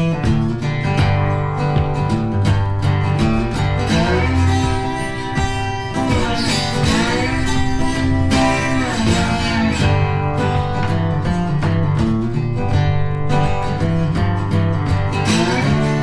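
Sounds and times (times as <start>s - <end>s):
guitar background music: 0.0s - 16.0s
steady bass: 0.0s - 16.0s.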